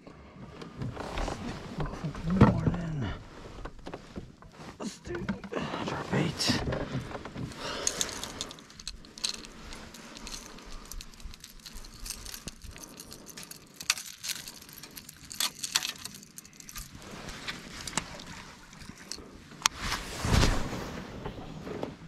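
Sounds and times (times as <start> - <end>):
kayak gear clicking and rattling: 0.6 - 19.9.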